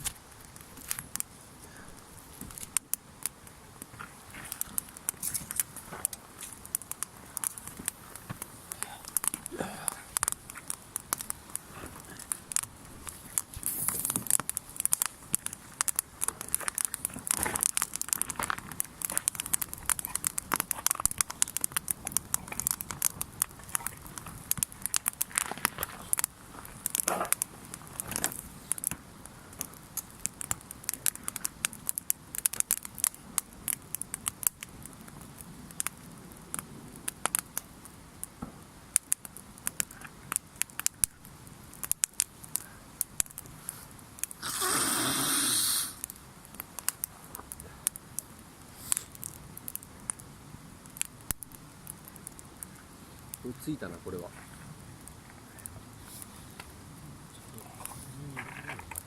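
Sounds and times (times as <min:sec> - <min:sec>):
campfire crackling and popping: 0:00.0 - 0:59.0
fire rustling: 0:00.0 - 0:59.0.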